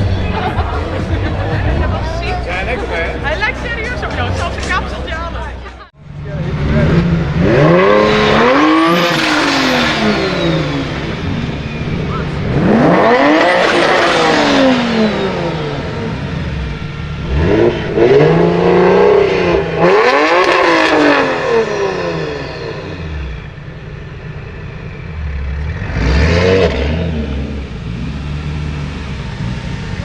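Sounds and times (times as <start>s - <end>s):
sports car engine revving: 0.0s - 30.0s.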